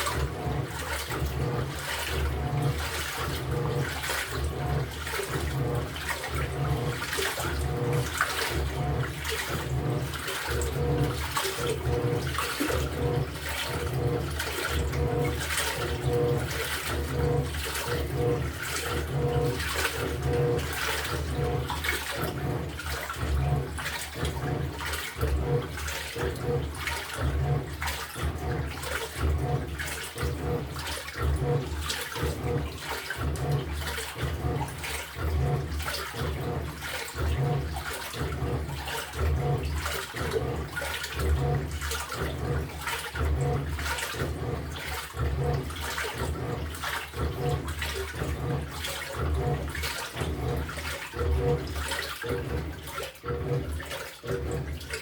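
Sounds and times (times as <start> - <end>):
washing machine motor hum: 0.0 - 55.0
washing machine water sloshing: 0.0 - 55.0.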